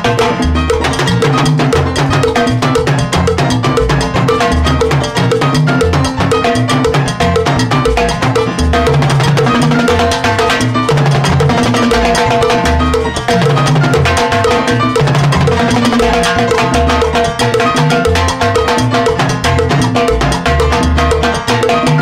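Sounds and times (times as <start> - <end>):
salsa band accompaniment: 0.0 - 22.0.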